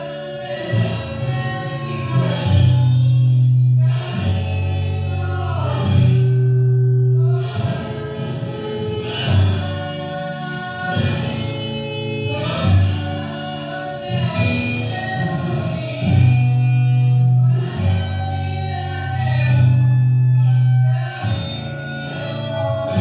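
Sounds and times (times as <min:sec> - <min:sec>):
guitar accompaniment: 0:00.0 - 0:23.0
person singing: 0:00.0 - 0:23.0.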